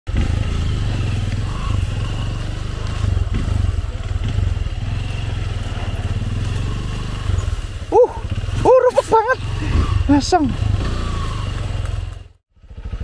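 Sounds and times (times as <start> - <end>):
motorcycle engine running: 0.1 - 13.0.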